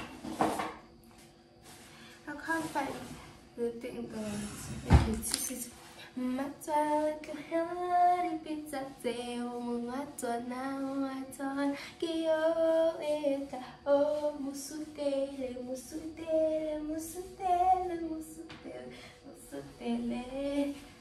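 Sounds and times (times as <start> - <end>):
woman singing unaccompanied: 3.6 - 21.0.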